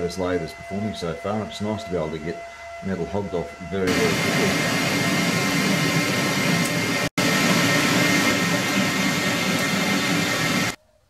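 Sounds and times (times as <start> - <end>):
metal lathe whining: 0.0 - 10.8.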